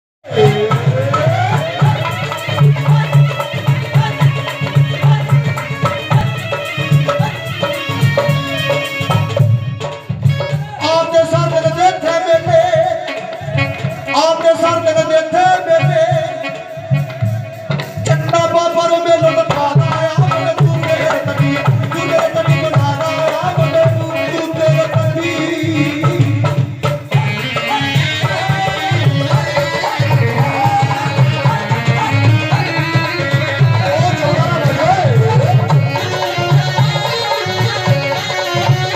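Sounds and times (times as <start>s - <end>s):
folk melody instruments: 0.2s - 38.9s
hand drum beat: 0.3s - 10.9s, 17.0s - 38.9s.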